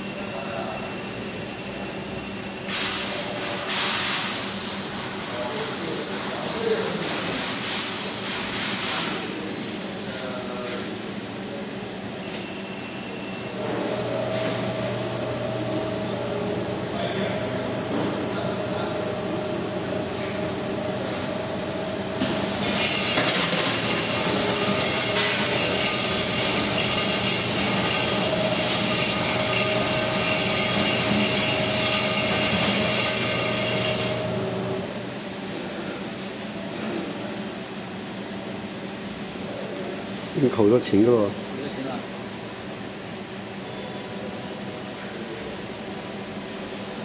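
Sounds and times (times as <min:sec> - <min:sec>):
machine running hiss and hum: 0:00.0 - 0:12.4, 0:13.2 - 0:40.6.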